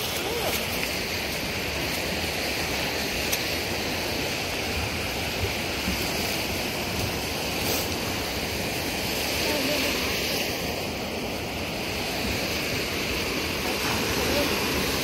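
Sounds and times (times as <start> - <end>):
lake waves on shore: 0.0 - 15.0.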